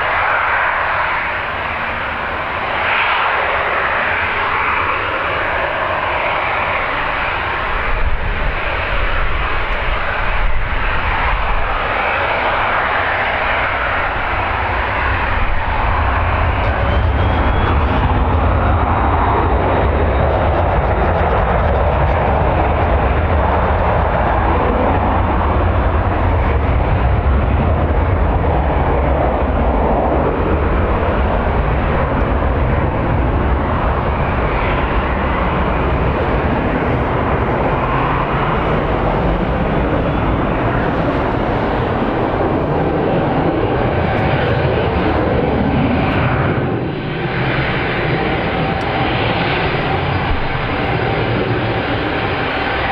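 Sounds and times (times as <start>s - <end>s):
jet airliner engine noise: 0.0s - 52.9s
wind rushing over microphone: 0.0s - 52.9s
deep rumble: 4.6s - 52.9s.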